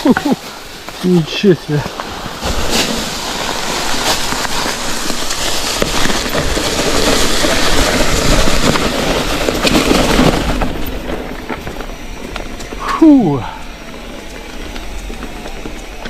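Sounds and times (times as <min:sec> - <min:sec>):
bike rattling: 0:00.0 - 0:16.0
bike tyres crackling on gravel: 0:00.0 - 0:16.0
wind rumbling on microphone: 0:00.0 - 0:16.0.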